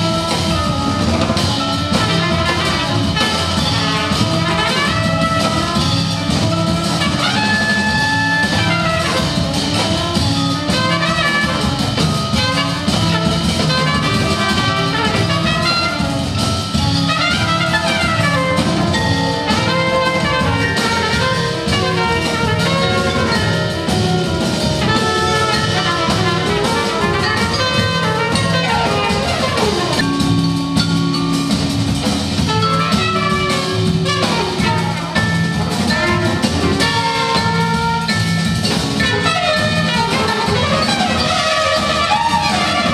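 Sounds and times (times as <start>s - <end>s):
brass horns: 0.0s - 42.9s
drum kit: 0.0s - 42.9s.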